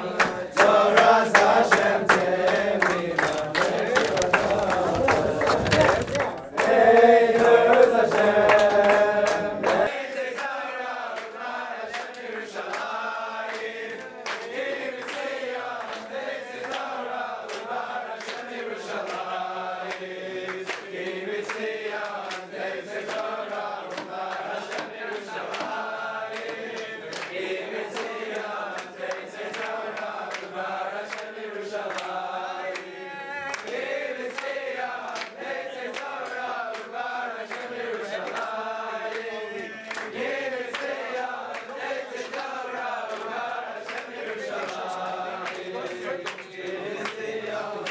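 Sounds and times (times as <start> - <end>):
men singing together: 0.0 - 47.9
hand claps: 0.1 - 47.9.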